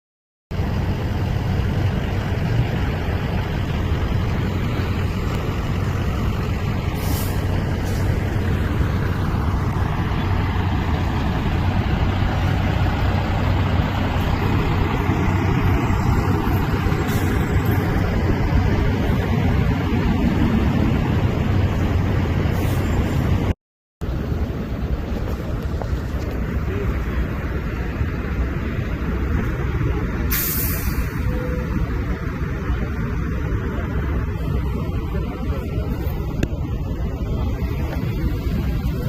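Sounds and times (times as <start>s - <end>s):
moving vehicle rumble: 0.5s - 39.0s.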